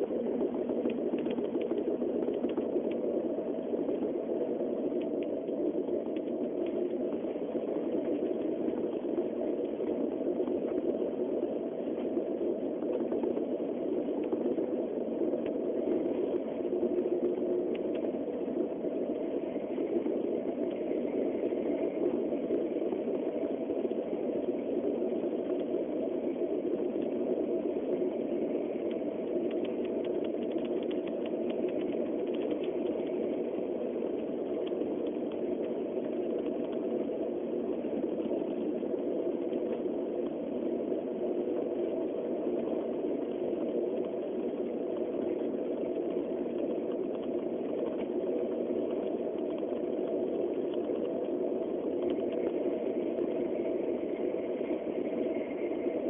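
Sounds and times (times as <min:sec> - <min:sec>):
faint ticks: 0:00.0 - 0:56.0.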